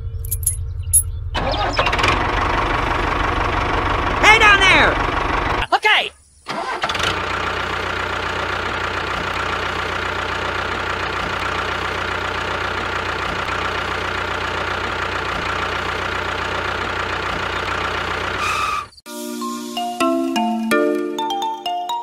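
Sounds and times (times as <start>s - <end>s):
tractor engine idling: 0.0s - 5.7s, 6.5s - 18.9s.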